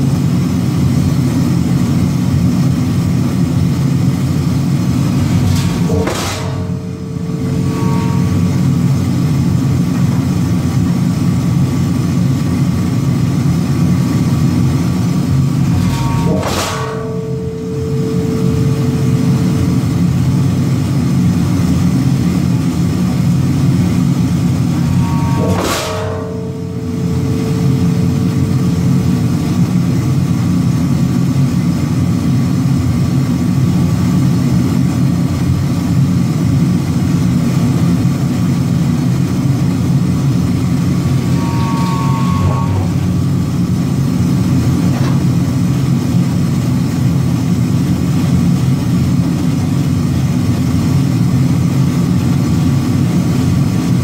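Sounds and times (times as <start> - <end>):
forging blow with metallic ring: 0.0 - 54.0
forging machine droning: 0.0 - 54.0.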